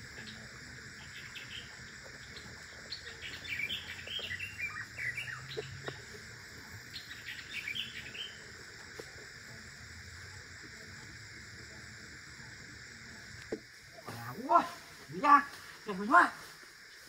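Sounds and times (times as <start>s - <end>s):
birds chirping: 0.0s - 17.0s
insects droning: 0.0s - 17.0s.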